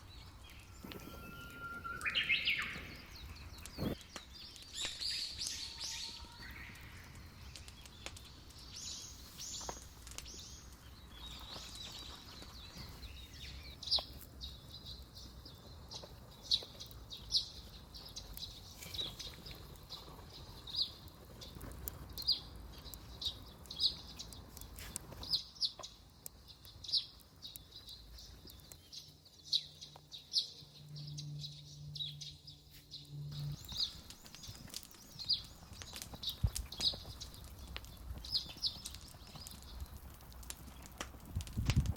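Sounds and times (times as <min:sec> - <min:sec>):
bird chirping: 0:00.0 - 0:40.0
low outdoor background: 0:00.0 - 0:41.9.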